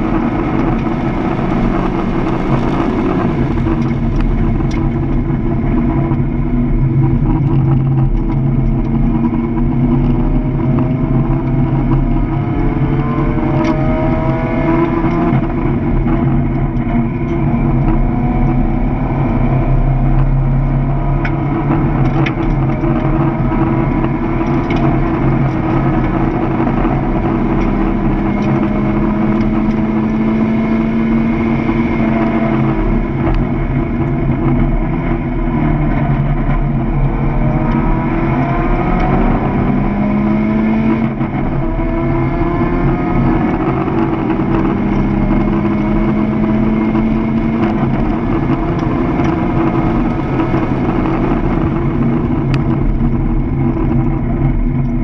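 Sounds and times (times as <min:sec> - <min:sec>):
car engine revving: 0:00.0 - 0:55.0
road noise: 0:00.0 - 0:55.0
wind noise: 0:00.0 - 0:55.0.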